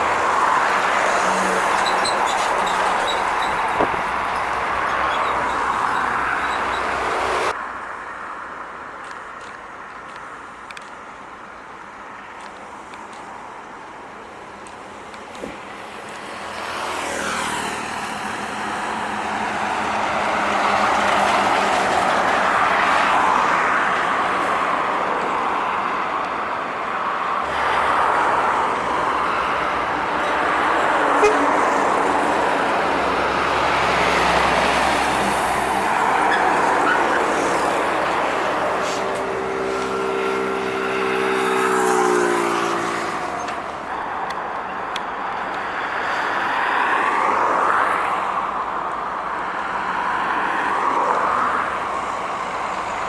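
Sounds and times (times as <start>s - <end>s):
trucks passing on highway: 0.0s - 53.0s.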